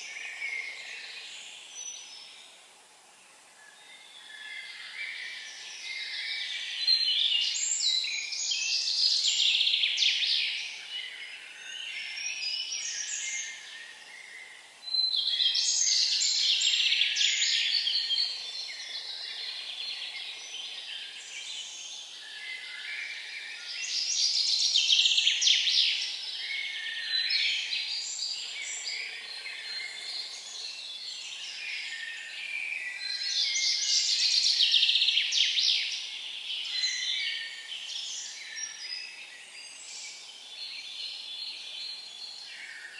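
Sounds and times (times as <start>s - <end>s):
songbird singing: 0.0s - 2.7s, 3.5s - 42.9s
quiet bird chirping: 0.0s - 42.9s.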